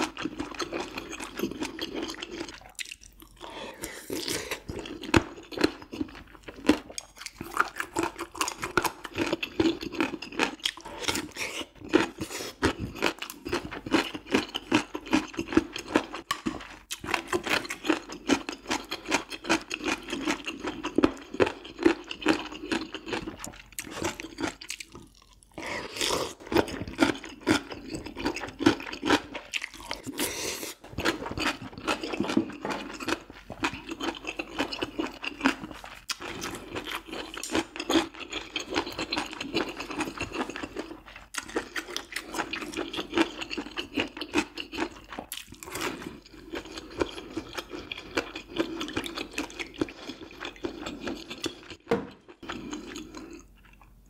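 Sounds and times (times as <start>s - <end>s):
chewing food: 0.0s - 54.0s.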